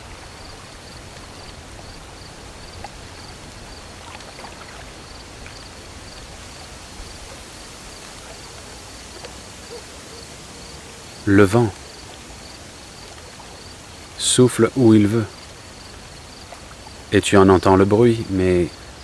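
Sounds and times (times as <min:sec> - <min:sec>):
crickets chirping: 0:00.0 - 0:19.0
soft night ambience hiss: 0:00.0 - 0:19.0.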